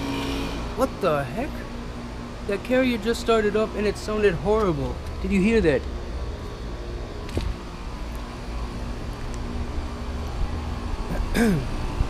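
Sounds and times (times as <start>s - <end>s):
air conditioner compressor hum: 0.0s - 12.0s.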